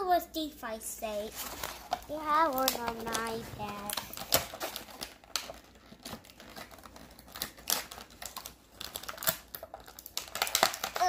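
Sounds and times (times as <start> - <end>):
plastic packaging crackling: 1.1 - 11.0.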